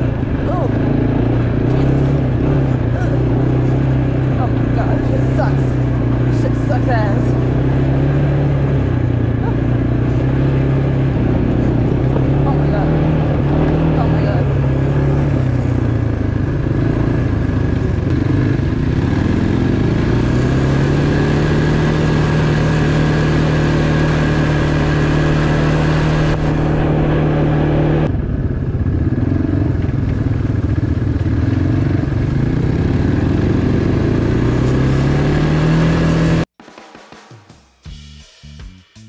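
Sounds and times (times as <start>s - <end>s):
motor engine running: 0.0s - 36.5s.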